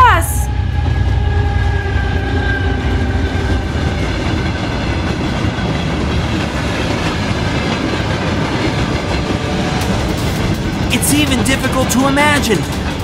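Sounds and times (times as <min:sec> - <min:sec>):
train wheels rumbling on rails: 0:00.6 - 0:13.0.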